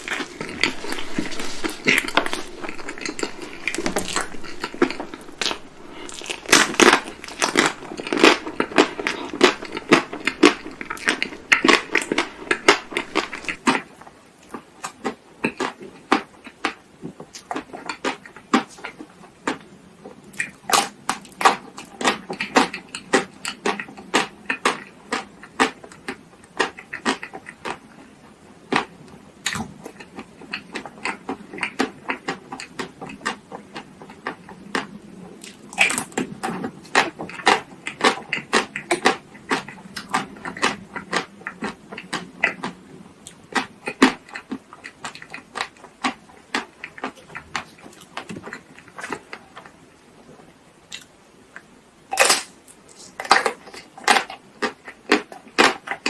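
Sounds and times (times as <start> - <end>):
close chewing and mouth sounds: 0.0 - 56.0.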